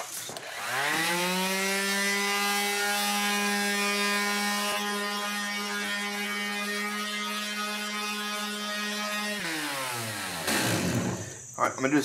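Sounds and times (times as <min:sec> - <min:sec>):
sheet sander buzzing: 0:00.4 - 0:11.5.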